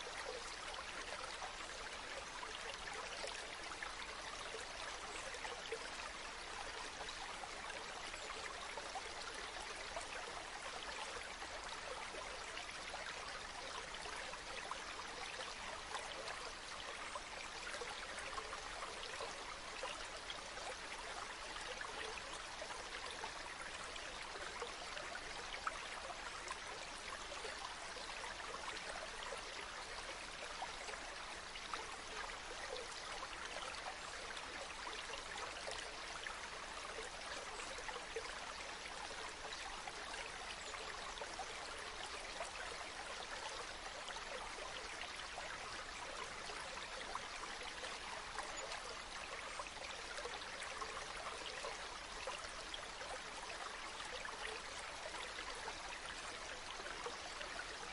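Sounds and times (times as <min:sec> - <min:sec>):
stream running water: 0:00.0 - 0:57.9.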